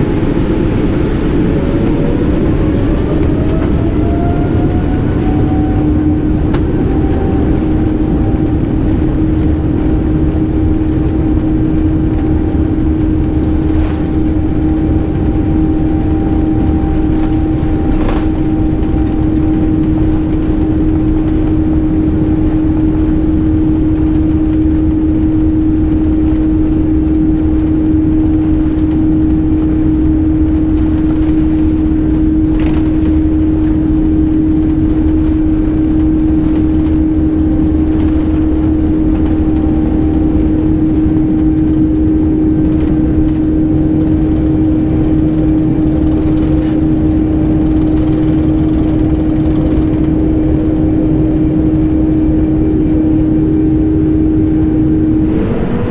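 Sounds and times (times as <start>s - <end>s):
jet engine roar in cabin: 0.0s - 55.9s.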